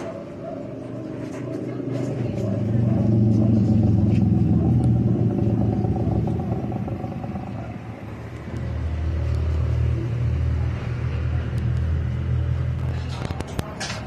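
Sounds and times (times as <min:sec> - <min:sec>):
motor engine rumbling: 0:00.0 - 0:14.0.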